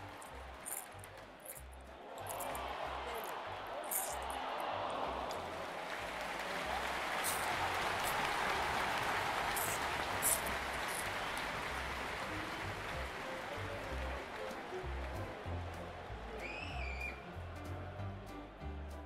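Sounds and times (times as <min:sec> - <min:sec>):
crowd applause: 0:00.0 - 0:18.0.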